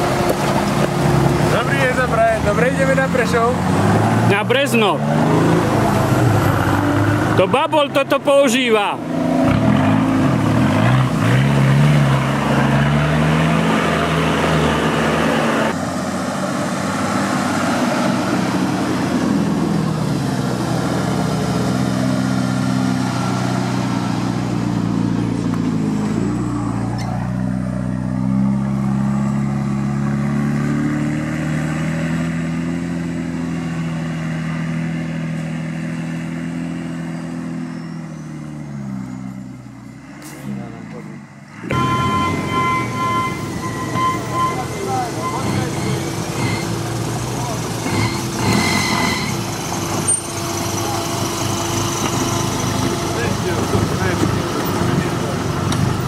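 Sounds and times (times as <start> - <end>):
off-road vehicle engine under load: 0.0 - 56.0.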